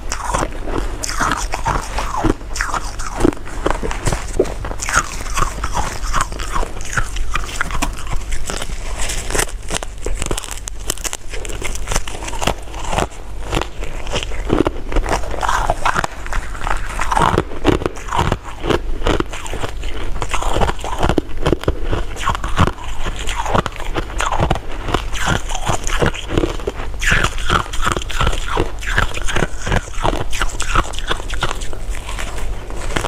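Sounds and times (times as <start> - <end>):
sweets being bitten and chewed: 0.0 - 33.0.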